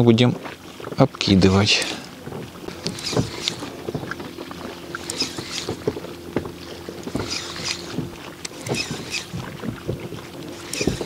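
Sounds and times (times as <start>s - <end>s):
waves slapping against boat hull: 0.0s - 11.0s.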